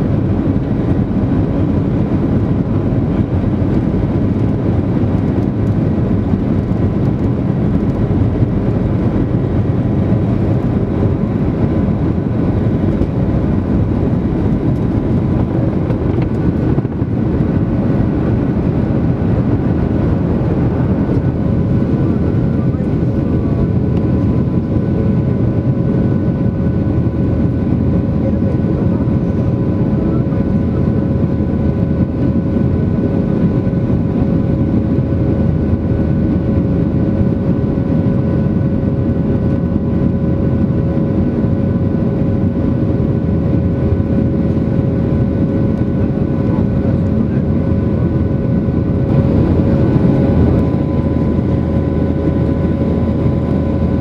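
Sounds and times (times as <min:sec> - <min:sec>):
jet engines and airflow roar: 0:00.0 - 0:54.0.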